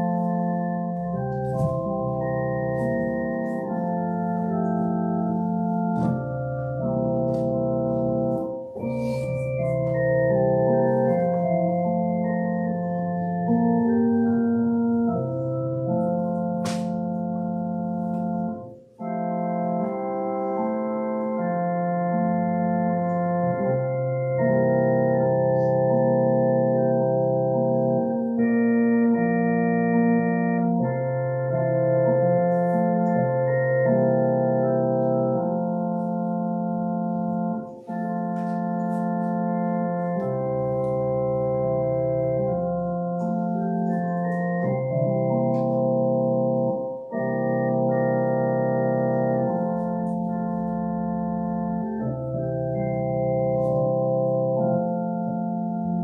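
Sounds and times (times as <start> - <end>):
electronic organ chords: 0.0 - 56.0.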